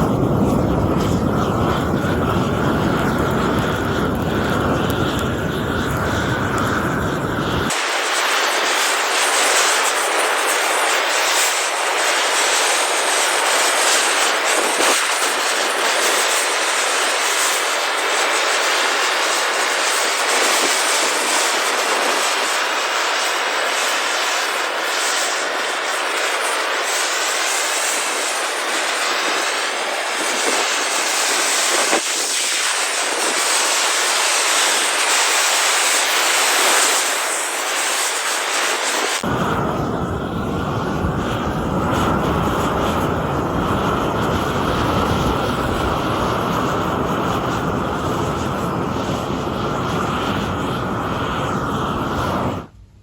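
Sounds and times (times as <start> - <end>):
blowtorch roaring: 0.0 - 52.8.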